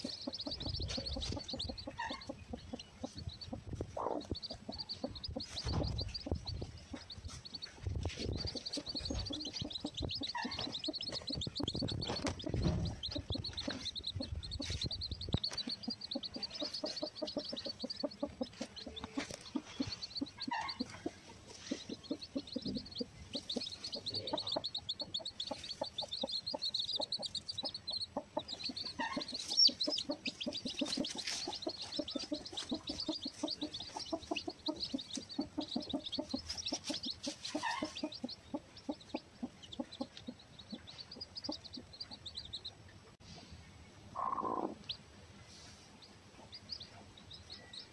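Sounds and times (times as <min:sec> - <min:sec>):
chicks cheeping: 0:00.0 - 0:47.9
hen clucking softly: 0:00.0 - 0:47.9.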